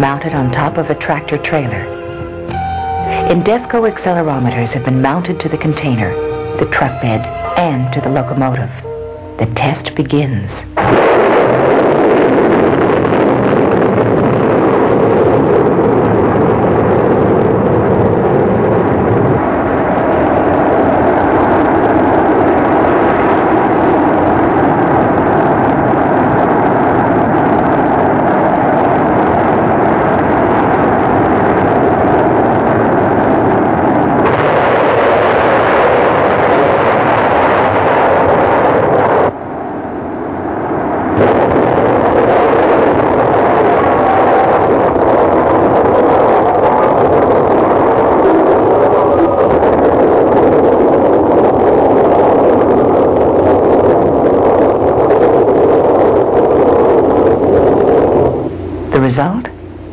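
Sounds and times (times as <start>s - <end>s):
rocket exhaust rushing: 0.0s - 59.9s.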